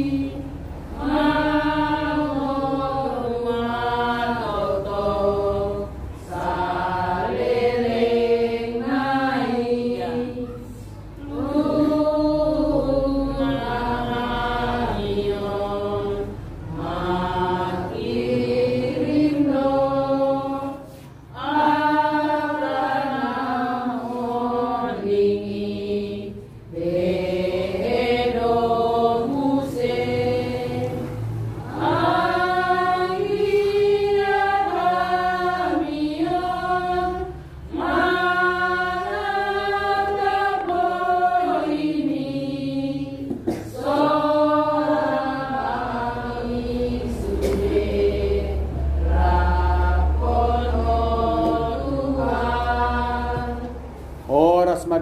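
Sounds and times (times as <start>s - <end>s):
group singing a hymn: 0.0s - 54.9s.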